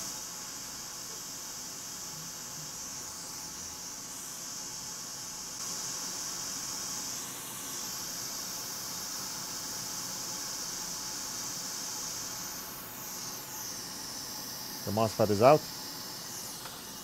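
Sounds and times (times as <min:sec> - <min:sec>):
hot air station hissing: 0:00.0 - 0:17.0.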